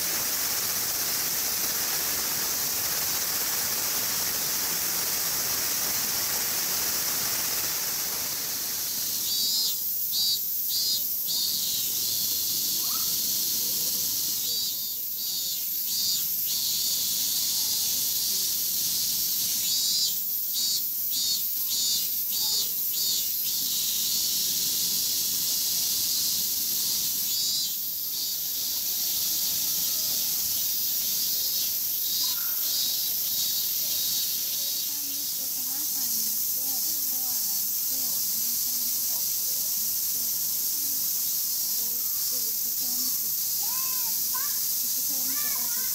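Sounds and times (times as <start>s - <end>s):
cicadas chorus: 0.0s - 45.9s.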